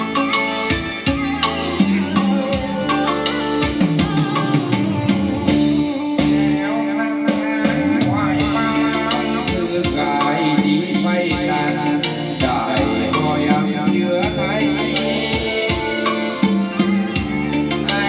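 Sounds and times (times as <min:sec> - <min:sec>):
song over loudspeakers: 0:00.0 - 0:18.0.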